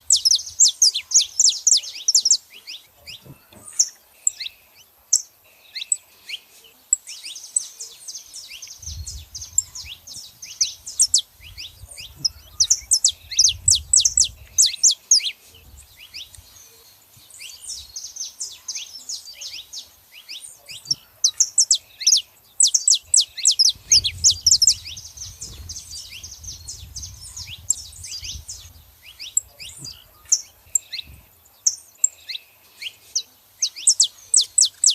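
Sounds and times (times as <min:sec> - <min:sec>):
finches chirping: 0:00.0 - 0:34.9.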